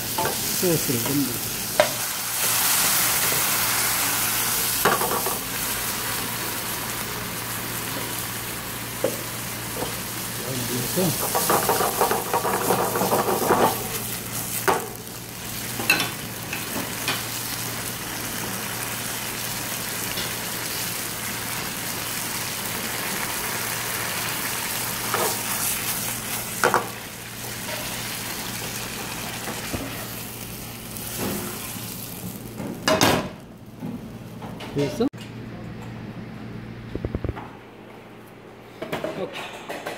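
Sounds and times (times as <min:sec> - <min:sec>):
food sizzling in a frying pan: 0:00.0 - 0:34.4.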